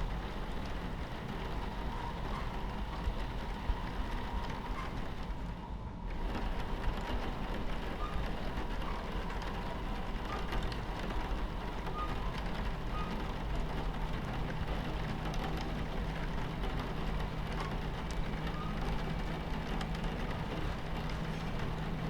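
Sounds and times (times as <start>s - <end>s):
rain hissing on window: 0.0s - 22.0s
train rumbling on tracks: 0.0s - 22.0s.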